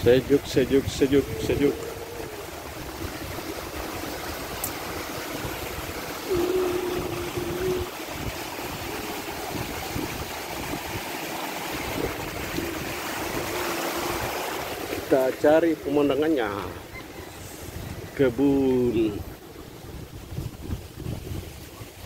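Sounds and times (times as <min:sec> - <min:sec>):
wind buffeting microphone: 0:00.0 - 0:15.6, 0:16.4 - 0:22.0.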